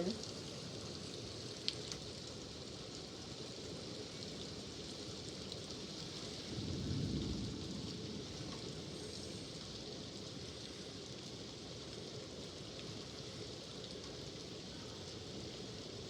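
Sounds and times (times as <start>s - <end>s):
heavy rain hissing and pattering: 0.0s - 16.0s.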